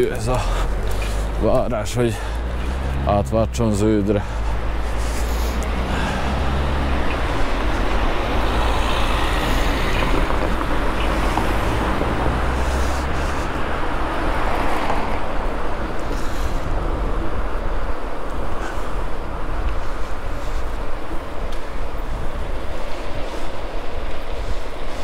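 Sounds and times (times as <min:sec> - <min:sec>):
low engine hum: 0:00.0 - 0:24.5
road and traffic noise: 0:00.0 - 0:25.0.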